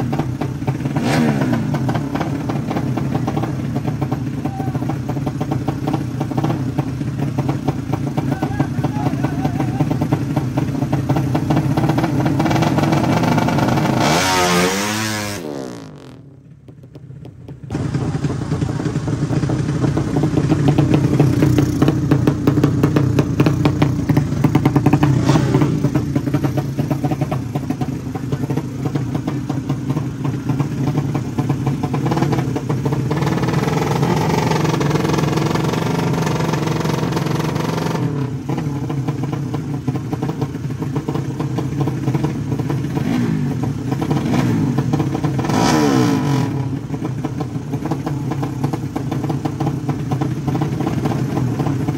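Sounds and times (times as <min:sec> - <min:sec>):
motorcycle engines revving: 0:00.0 - 0:51.9.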